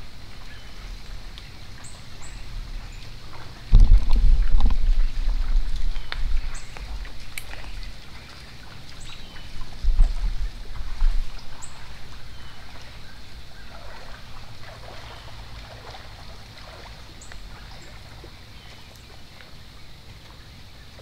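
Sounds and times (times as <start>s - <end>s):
faint steady hiss: 0.0s - 21.0s
wind rumble on microphone: 0.0s - 21.0s.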